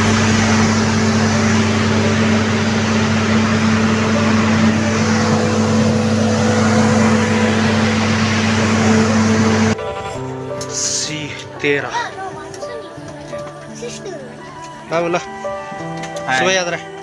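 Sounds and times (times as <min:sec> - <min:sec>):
engines droning: 0:00.0 - 0:17.0.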